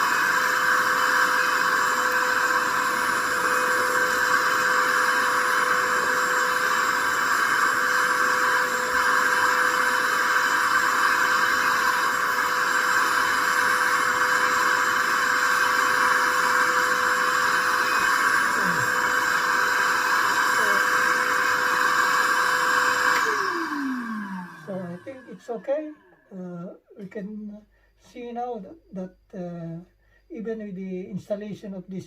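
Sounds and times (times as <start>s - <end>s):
vacuum cleaner running: 0.0s - 26.2s.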